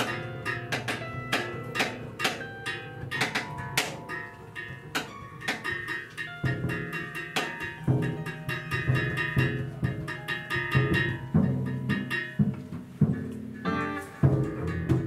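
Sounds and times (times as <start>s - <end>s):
higher picked string notes: 0.0s - 15.0s
plucked bass notes: 0.0s - 15.0s.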